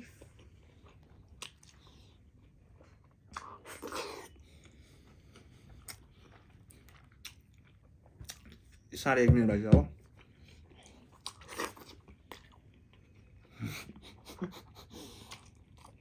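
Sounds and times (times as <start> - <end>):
chewing food: 0.0 - 8.8, 10.0 - 16.0.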